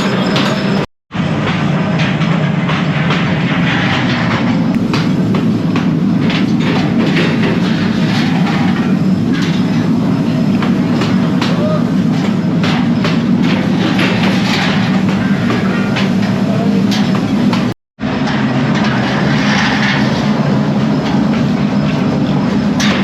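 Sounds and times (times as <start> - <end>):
factory machinery humming: 0.0 - 23.0
metallic knocks and clatter: 0.0 - 23.0.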